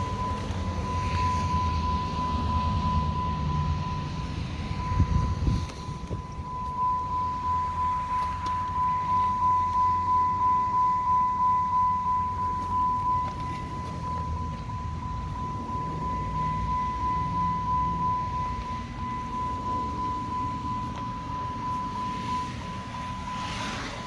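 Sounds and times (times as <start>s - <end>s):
car engine idling: 0.0s - 23.4s
high-pitched tone: 0.0s - 24.0s.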